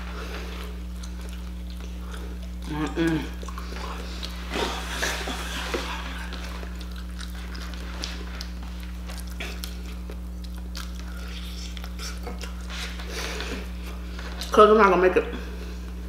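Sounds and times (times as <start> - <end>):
chewing and wet smacking: 0.0 - 14.8
steady low hum: 0.0 - 16.0.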